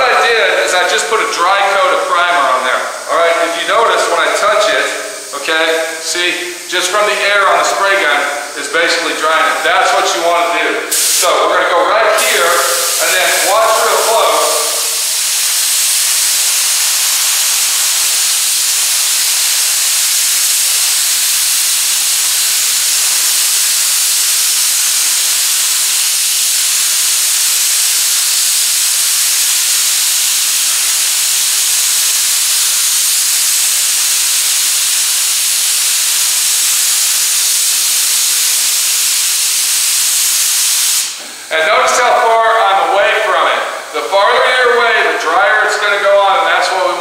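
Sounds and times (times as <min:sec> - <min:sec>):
spray gun hissing: 0:00.0 - 0:47.0.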